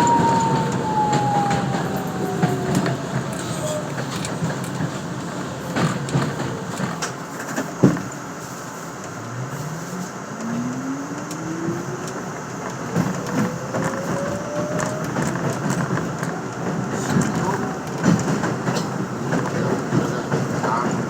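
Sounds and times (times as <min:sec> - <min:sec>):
subway motor whine: 0:00.0 - 0:21.0
train wheels rattling on track: 0:00.0 - 0:21.0.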